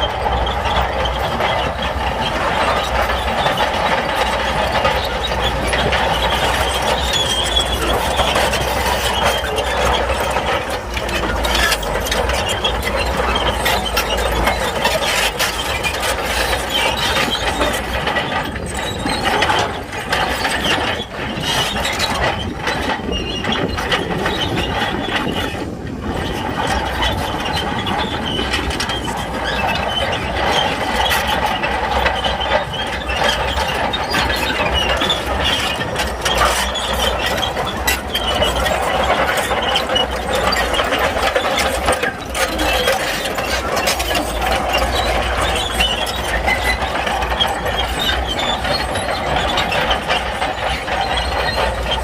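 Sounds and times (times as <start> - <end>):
low diesel engine rumble: 0.0 - 52.0
steel tracks clanking and squealing: 0.0 - 52.0.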